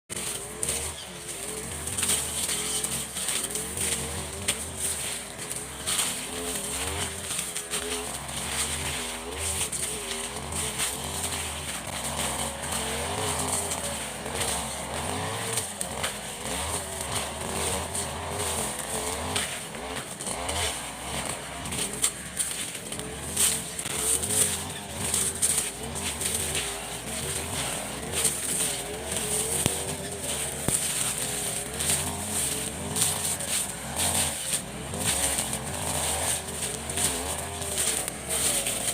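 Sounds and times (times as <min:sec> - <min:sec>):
brushcutter engine cutting brush: 0:00.1 - 0:38.9.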